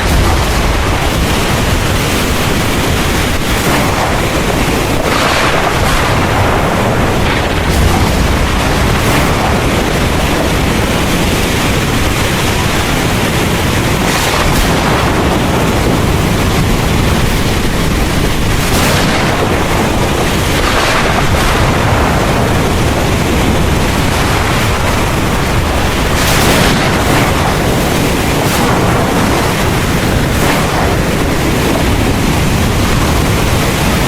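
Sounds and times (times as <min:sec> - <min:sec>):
heavy rain pouring: 0:00.0 - 0:34.0
thunder rumbling: 0:00.0 - 0:34.0.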